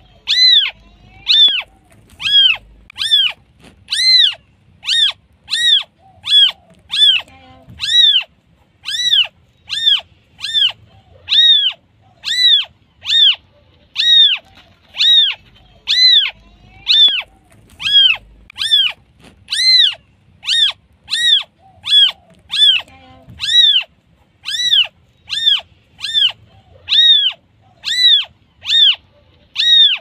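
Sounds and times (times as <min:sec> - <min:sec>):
kitten mewing: 0:00.0 - 0:30.0.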